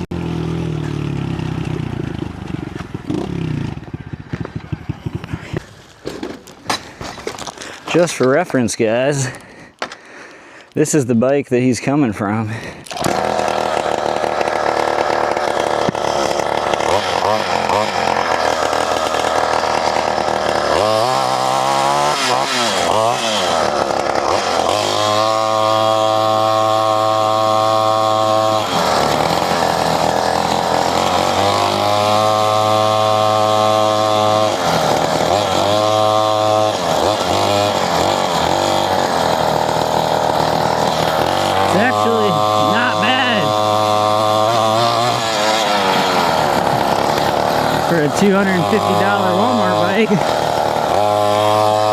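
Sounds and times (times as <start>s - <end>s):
dirt bike engine revving: 0.0s - 7.0s, 12.5s - 51.9s.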